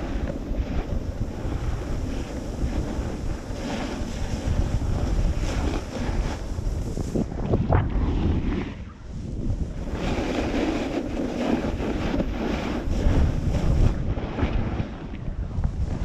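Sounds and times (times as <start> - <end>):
snowboard edges scraping snow: 0.0 - 16.0
steady rumble: 0.0 - 16.0
wind buffeting microphone: 0.0 - 16.0.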